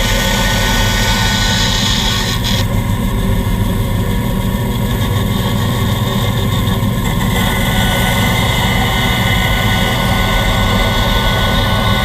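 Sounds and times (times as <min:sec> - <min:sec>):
band saw cutting wood: 0:00.0 - 0:12.0
machines humming: 0:00.0 - 0:12.0.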